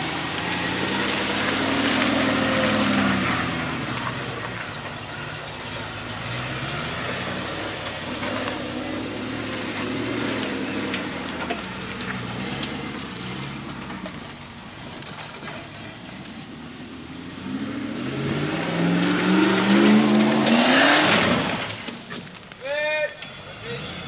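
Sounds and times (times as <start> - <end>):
off-road vehicle engine revving: 0.0 - 22.4, 23.1 - 24.0.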